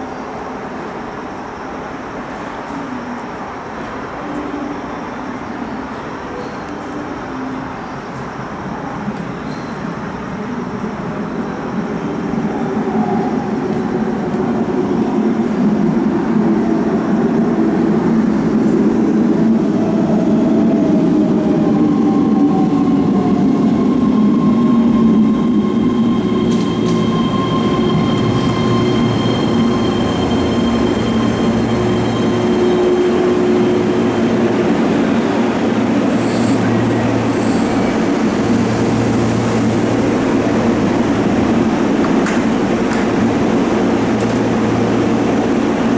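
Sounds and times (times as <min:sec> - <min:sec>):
train wheels rumbling on rail: 0:08.1 - 0:45.9.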